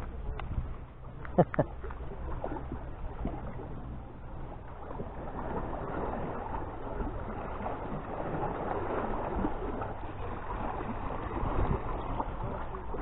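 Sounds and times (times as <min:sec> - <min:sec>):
wind on microphone: 0:00.0 - 0:01.4, 0:02.0 - 0:13.0
sea water lapping on shore: 0:00.0 - 0:13.0.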